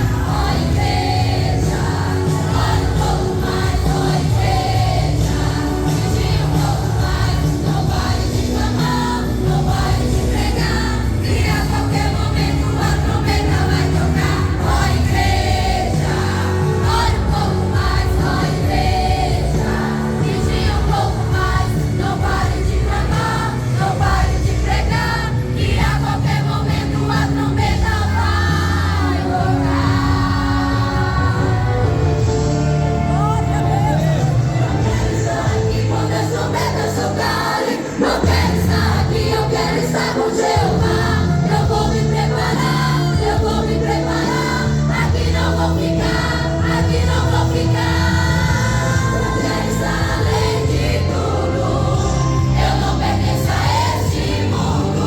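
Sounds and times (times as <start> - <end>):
band accompaniment with bass: 0.0 - 55.0
youth choir singing gospel: 0.0 - 55.0.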